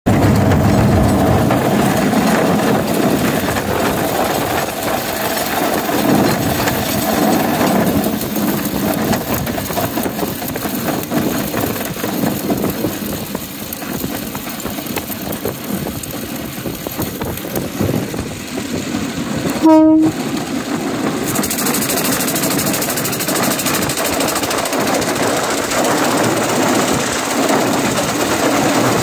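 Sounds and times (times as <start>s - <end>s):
motorized railcart rolling on rails: 0.1s - 29.0s.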